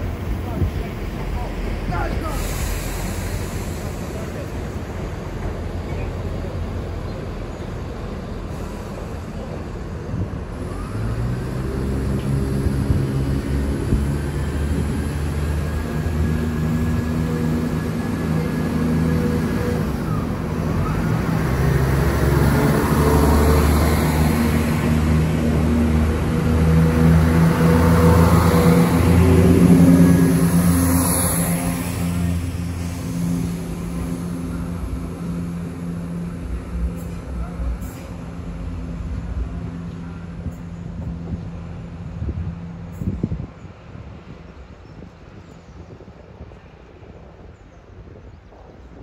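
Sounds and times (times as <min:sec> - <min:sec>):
train engine hum: 0:00.0 - 0:49.0.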